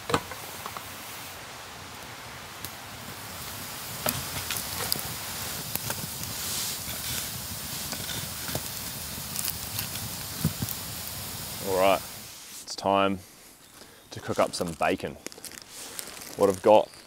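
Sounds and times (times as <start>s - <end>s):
campfire crackles and pops: 0.0s - 12.6s, 13.7s - 17.0s
steady fire hiss: 0.0s - 17.0s.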